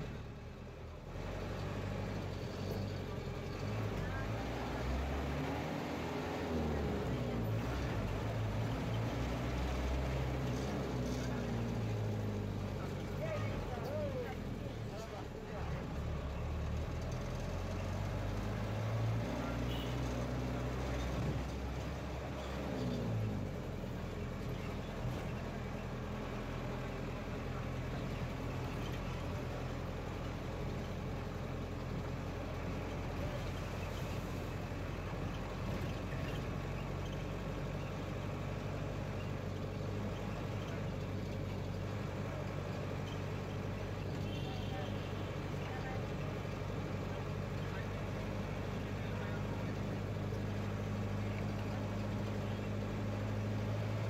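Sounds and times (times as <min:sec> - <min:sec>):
road and traffic noise: 0:00.0 - 0:54.0
vehicle engine running: 0:00.0 - 0:54.0.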